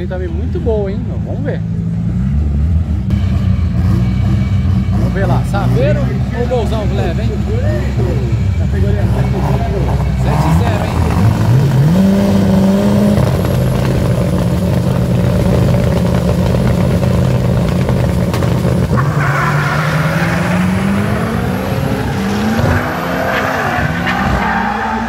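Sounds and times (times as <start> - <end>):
cars accelerating: 0.0 - 25.0
race car engines revving: 0.0 - 25.0.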